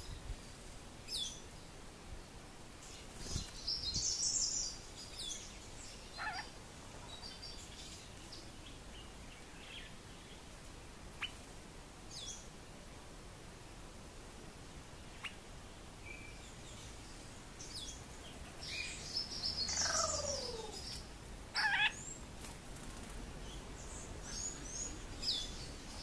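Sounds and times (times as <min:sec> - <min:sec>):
small birds calling: 0:01.1 - 0:10.5, 0:11.1 - 0:11.5, 0:15.0 - 0:26.0.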